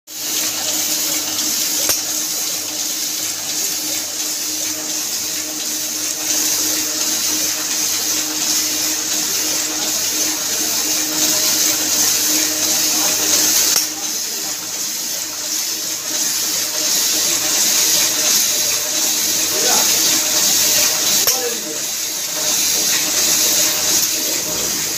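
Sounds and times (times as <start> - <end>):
printing press running: 0.1 - 24.9.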